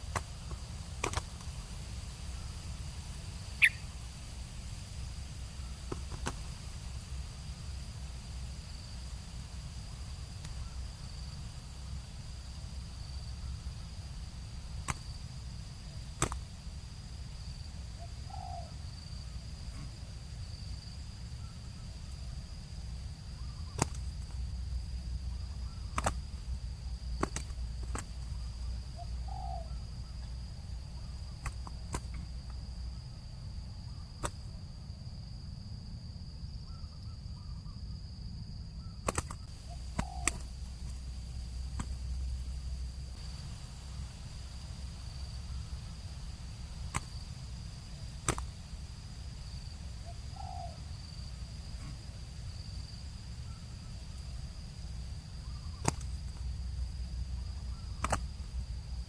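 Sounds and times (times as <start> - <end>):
low wind rumble: 0.0 - 59.0.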